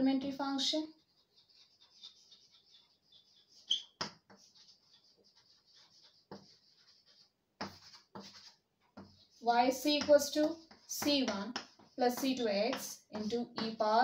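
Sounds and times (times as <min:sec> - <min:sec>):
chalk scratching on blackboard: 0:00.9 - 0:14.0
chalk tapping on board: 0:01.1 - 0:14.0.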